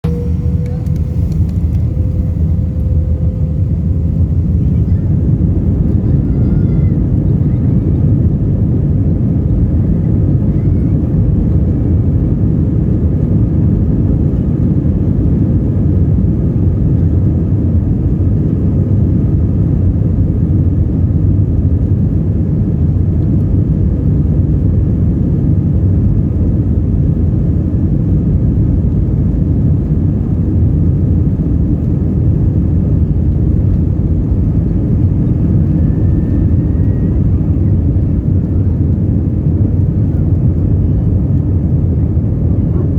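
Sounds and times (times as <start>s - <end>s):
jet engine cabin rumble: 0.0s - 42.9s.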